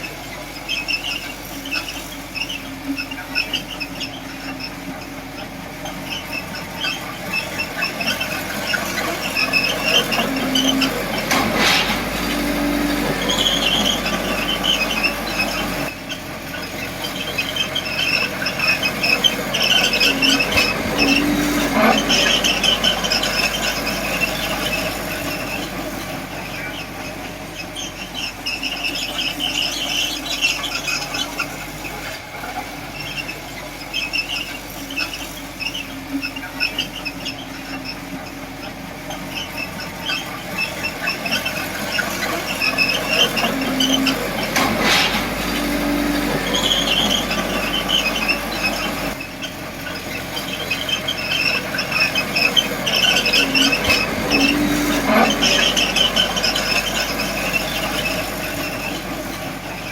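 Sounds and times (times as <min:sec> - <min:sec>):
diesel engine running: 0:00.0 - 0:59.9
steel tracks squealing: 0:00.0 - 0:59.9.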